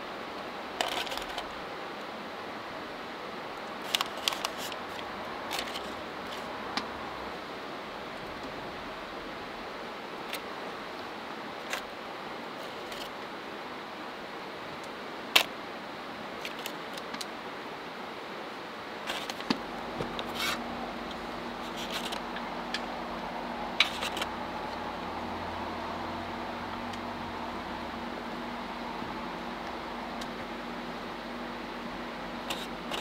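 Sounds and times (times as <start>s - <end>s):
low steady hum: 0.0s - 33.0s
steady hiss: 0.0s - 33.0s.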